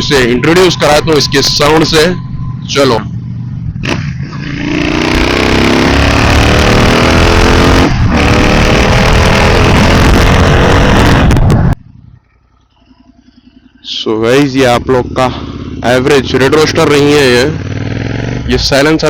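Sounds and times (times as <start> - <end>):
motorcycle exhaust revving: 0.0 - 19.0.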